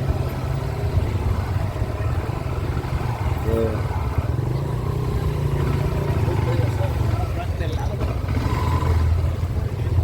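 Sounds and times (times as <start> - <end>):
motorcycle engine low rumble: 0.0 - 10.0.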